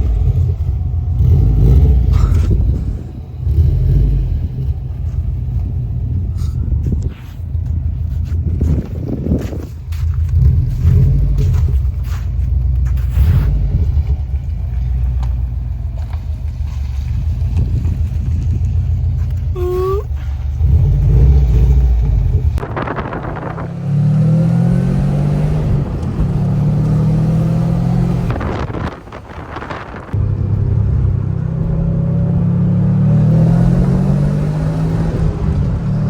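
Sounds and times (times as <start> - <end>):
car engine exhaust rumble: 0.0 - 36.0.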